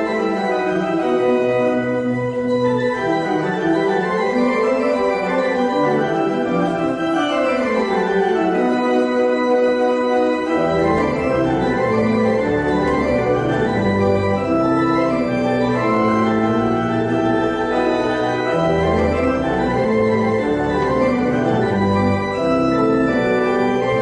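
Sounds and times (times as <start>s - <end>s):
organ music with held chords: 0.0s - 24.0s.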